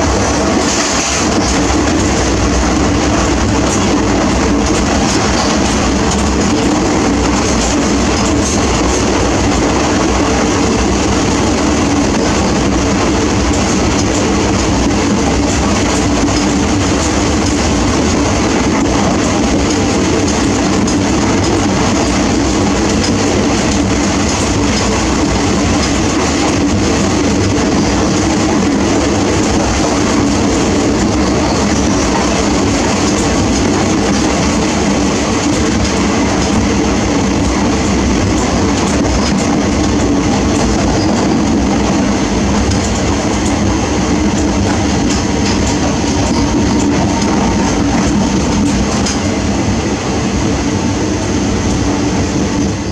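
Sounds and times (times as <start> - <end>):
train carriage rattling: 0.0 - 52.9
train wheels rumbling on rails: 0.0 - 52.9.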